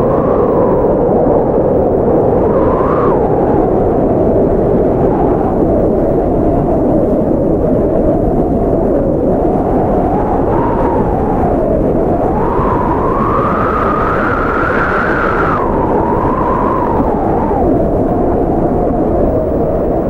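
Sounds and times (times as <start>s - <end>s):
whistling blizzard wind: 0.0s - 20.0s.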